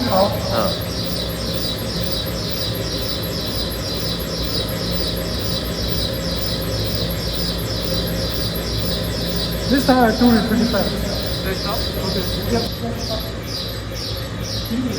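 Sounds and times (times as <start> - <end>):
high descending chirps: 0.0 - 14.9
steady low hum: 0.0 - 14.9.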